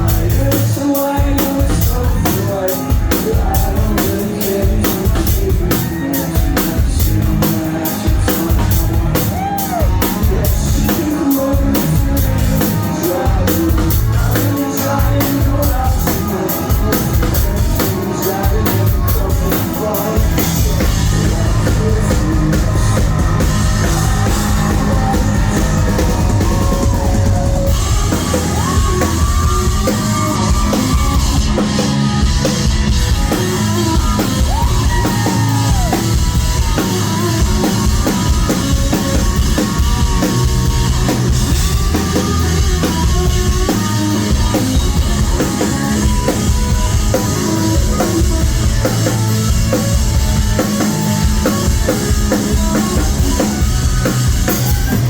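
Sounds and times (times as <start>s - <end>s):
distorted guitars: 0.0s - 55.0s
person singing: 0.0s - 55.0s.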